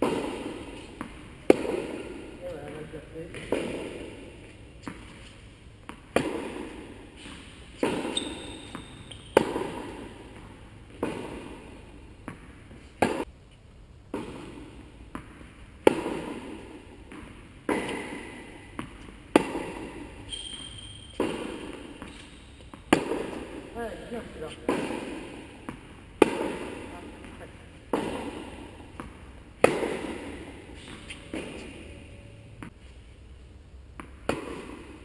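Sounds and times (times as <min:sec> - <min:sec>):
tennis ball hits and bounces: 0:00.0 - 0:13.3, 0:14.1 - 0:32.8, 0:33.9 - 0:35.0.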